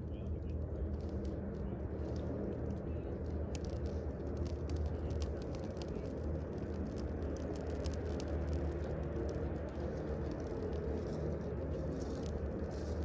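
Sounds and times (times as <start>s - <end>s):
fire burning with crackles: 0.0s - 13.0s.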